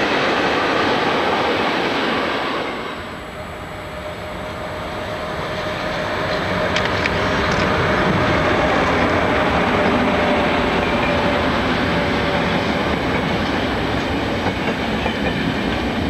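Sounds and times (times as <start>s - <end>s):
electric locomotive rumble and tone: 0.0s - 16.0s
train rolling noise: 0.0s - 16.0s.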